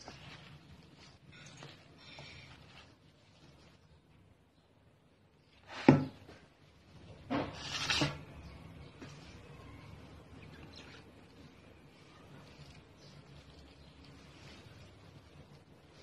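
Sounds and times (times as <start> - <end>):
leaves rustling in bowl: 0.0 - 4.2, 6.8 - 16.0.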